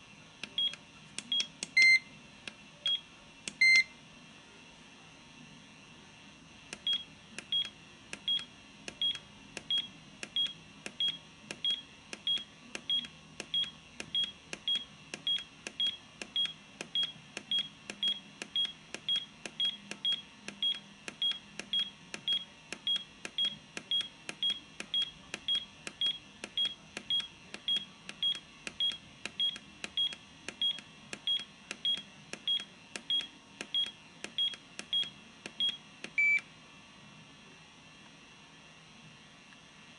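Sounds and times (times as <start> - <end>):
high electronic key beeps: 0.4 - 2.1, 2.8 - 3.9, 6.8 - 36.4.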